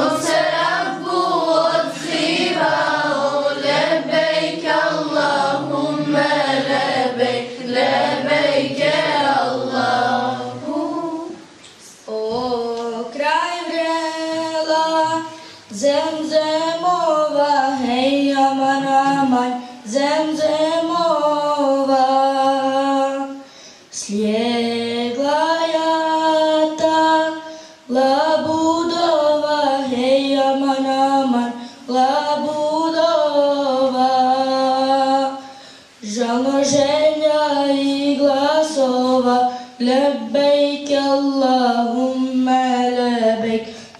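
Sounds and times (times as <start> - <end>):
female voices singing a hymn: 0.0 - 23.4, 24.0 - 43.9.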